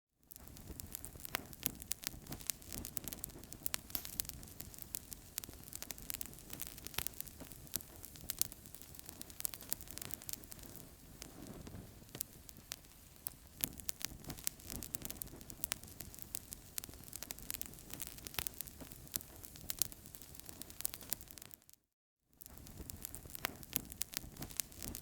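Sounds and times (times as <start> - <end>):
soft steady hiss: 0.3 - 21.2
low rumble of flames: 0.3 - 21.3, 22.5 - 25.0
wood fire crackling: 0.3 - 21.7, 22.4 - 25.0.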